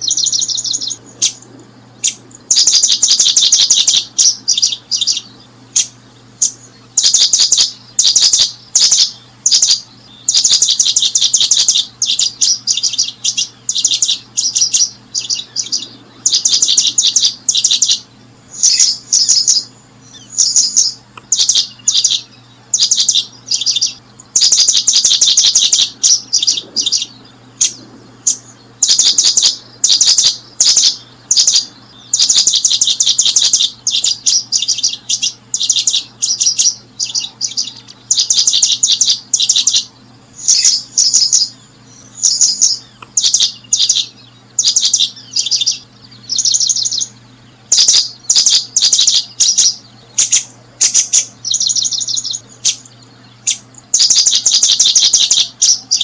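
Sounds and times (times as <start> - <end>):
small bird chirping: 0.0 - 56.0.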